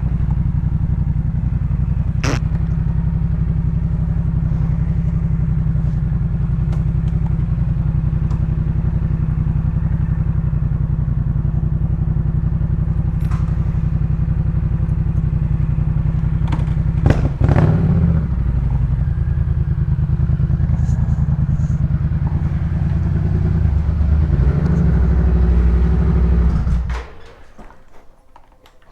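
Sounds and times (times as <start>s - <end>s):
motorcycle engine revving: 0.0s - 27.7s
motorcycle engine idling: 0.0s - 28.9s.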